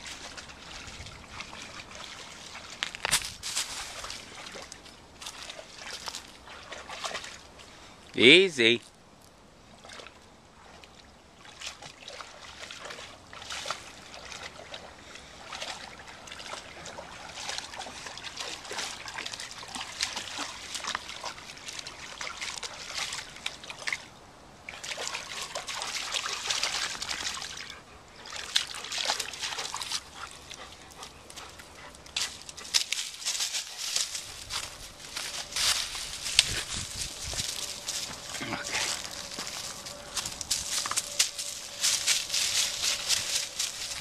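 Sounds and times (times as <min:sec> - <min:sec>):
dog splashing through water: 0:00.0 - 0:02.8, 0:03.6 - 0:07.5, 0:09.8 - 0:24.1, 0:24.7 - 0:44.0.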